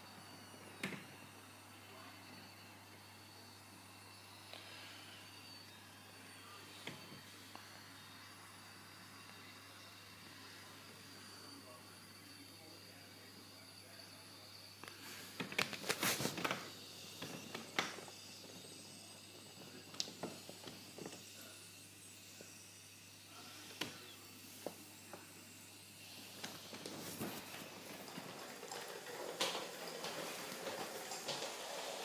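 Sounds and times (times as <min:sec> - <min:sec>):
steam hissing: 0:00.0 - 0:32.0.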